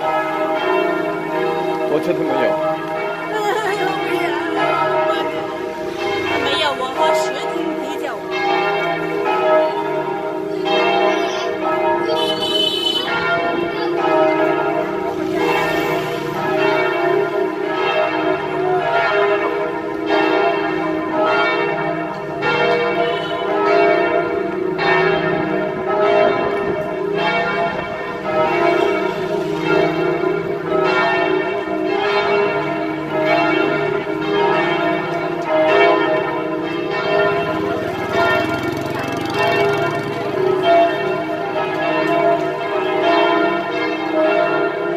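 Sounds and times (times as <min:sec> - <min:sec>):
church bells pealing: 0:00.0 - 0:44.9.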